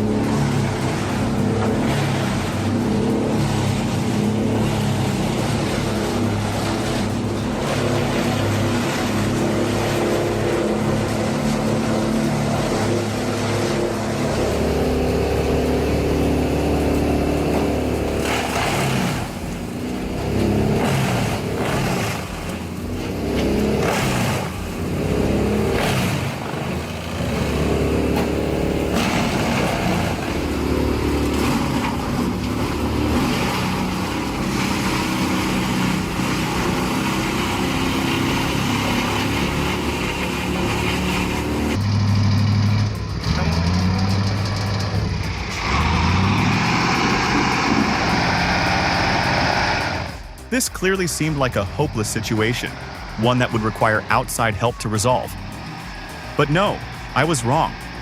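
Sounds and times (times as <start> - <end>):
large engine running under load: 0.0 - 58.0.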